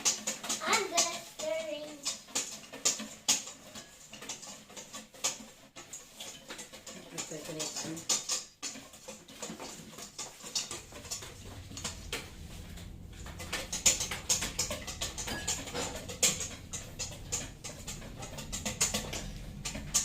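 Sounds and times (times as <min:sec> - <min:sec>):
whisk stirring batter in bowl: 0:00.0 - 0:20.0.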